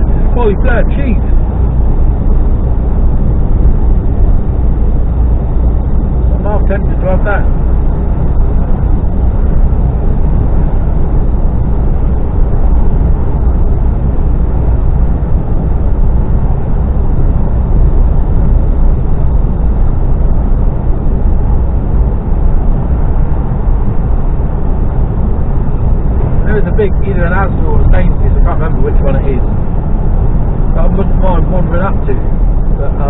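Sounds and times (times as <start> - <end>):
lorry drone inside cab: 0.0 - 33.0.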